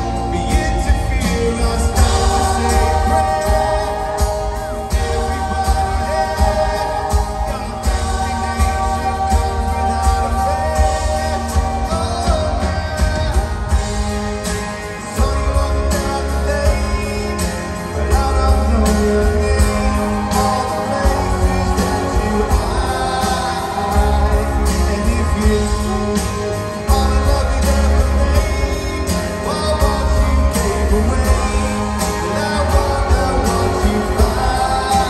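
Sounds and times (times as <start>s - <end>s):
man singing: 0.0s - 35.0s
rock band playing: 0.0s - 35.0s.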